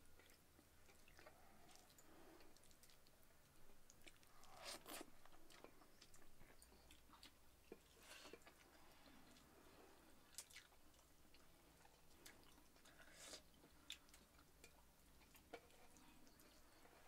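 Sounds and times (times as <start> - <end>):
person chewing: 0.2 - 17.0.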